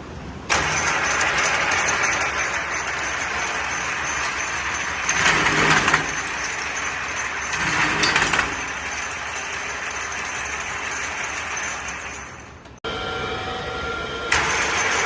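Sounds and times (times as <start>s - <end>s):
machine running: 0.5s - 15.0s.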